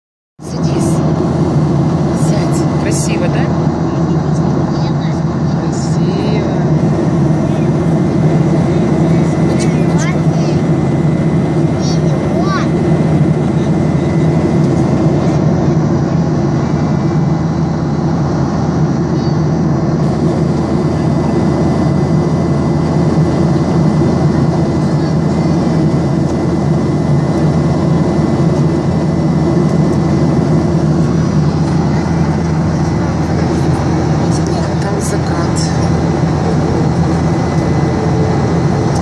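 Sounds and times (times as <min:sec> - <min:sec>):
constant low hum: 0:00.4 - 0:39.0
jet engines droning: 0:00.4 - 0:39.0
thin steady high whine: 0:00.4 - 0:39.0.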